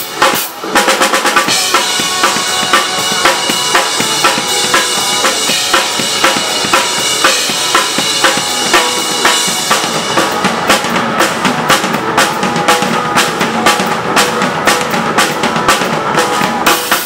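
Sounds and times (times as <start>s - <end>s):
drum kit played fast: 0.0s - 17.0s
rock backing track: 0.0s - 17.0s.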